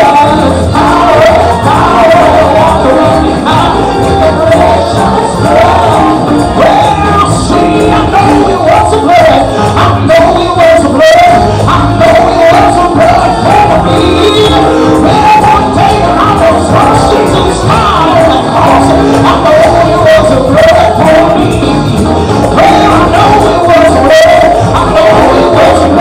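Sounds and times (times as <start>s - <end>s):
gospel music with singing: 0.0s - 26.0s.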